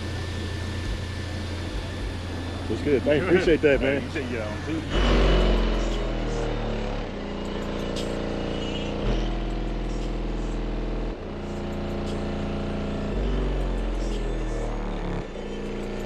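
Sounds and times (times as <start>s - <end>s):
buzzy subwoofer bass notes: 0.0s - 16.0s.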